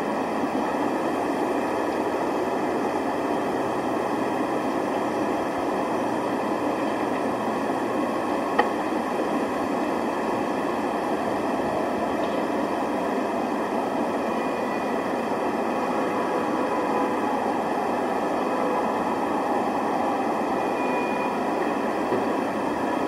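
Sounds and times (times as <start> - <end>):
city street noise: 0.0 - 23.0.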